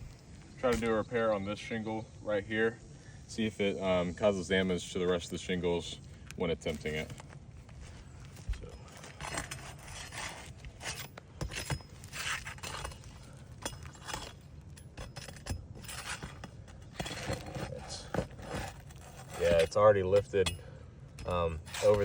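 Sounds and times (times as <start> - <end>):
shingle scraping: 3.8 - 22.0.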